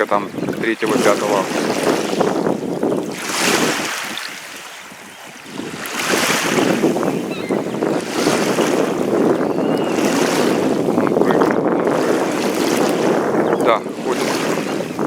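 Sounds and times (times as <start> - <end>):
wind gusts on microphone: 0.0 - 15.0.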